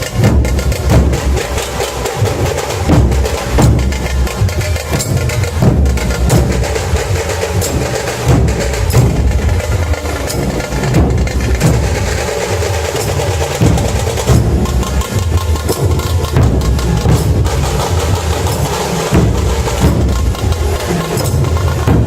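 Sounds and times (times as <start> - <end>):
dhol drums beating rhythm: 0.0 - 22.0
tasha drums rattling: 0.0 - 22.0.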